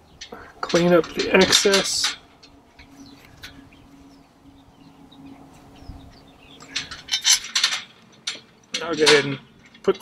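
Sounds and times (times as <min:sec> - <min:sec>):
low steady hum: 0:00.0 - 0:10.0
small birds chirping: 0:00.0 - 0:10.0.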